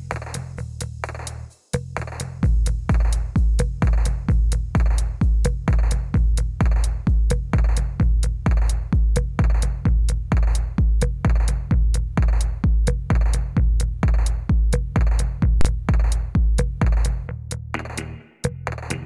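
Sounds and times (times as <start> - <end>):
electronic music with drum-machine beat: 2.7 - 19.0.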